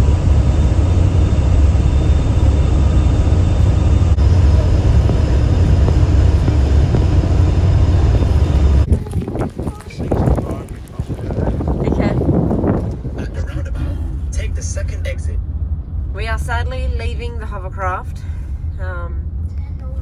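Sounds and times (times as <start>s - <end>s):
faint whining tones: 0.0s - 20.0s
hovercraft engine rumble: 0.0s - 20.0s.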